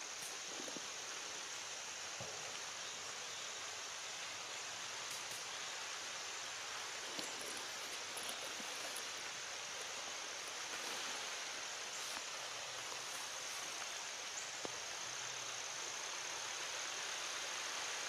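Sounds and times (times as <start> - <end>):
rain falling on leaves: 0.1 - 18.0.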